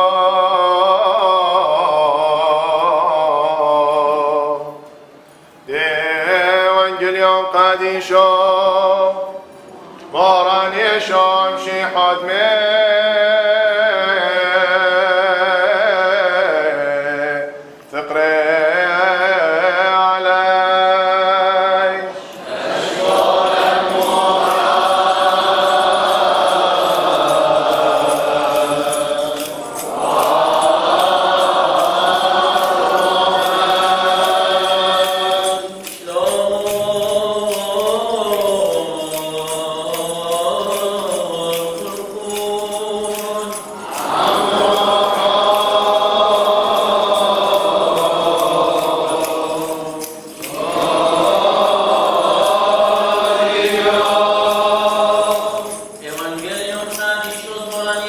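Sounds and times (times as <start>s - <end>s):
liturgical chant: 0.0s - 58.0s.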